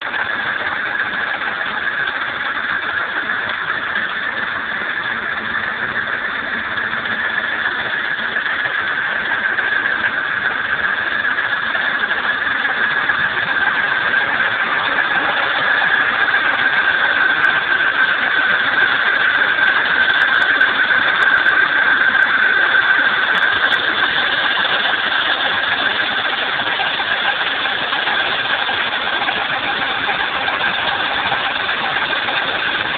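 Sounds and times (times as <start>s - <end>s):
car engine running: 0.0s - 32.9s
steady mechanical noise: 0.0s - 32.9s.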